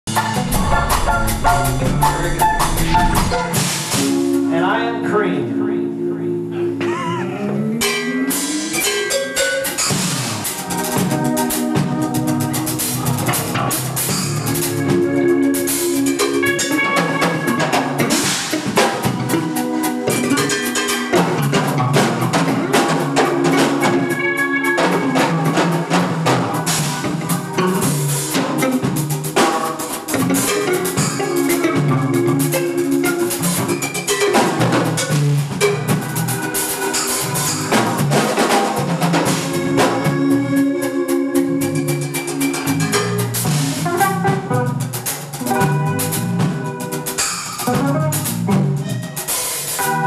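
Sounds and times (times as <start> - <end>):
drum kit beat: 0.0 - 4.8, 6.8 - 50.0
bass guitar: 0.0 - 50.0
electric guitar: 0.1 - 50.0.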